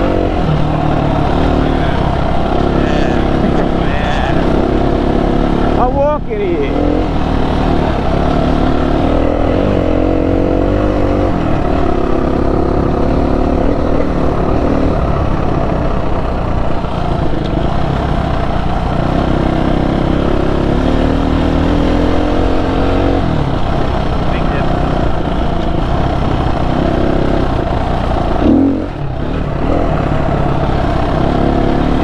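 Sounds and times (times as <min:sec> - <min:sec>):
riding wind noise: 0:00.0 - 0:31.6
motorcycle engine revving: 0:00.0 - 0:32.0.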